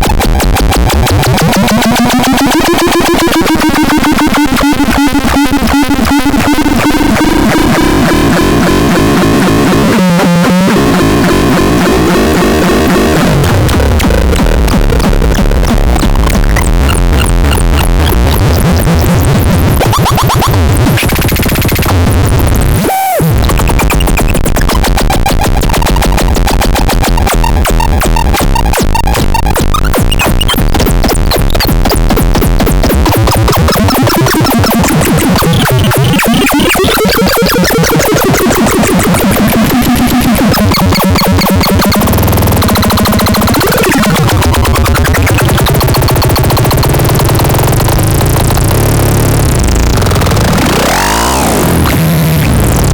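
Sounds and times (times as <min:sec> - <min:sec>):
harsh noisy synth textures: 0:00.0 - 0:52.9.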